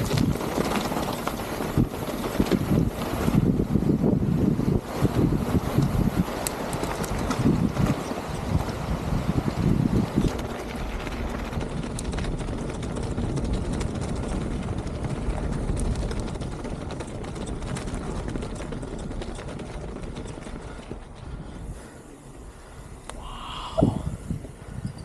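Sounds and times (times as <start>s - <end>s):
bike clicks and rattles: 0.0s - 23.2s, 24.2s - 25.0s
bike tyres on dirt and rock: 0.0s - 25.0s.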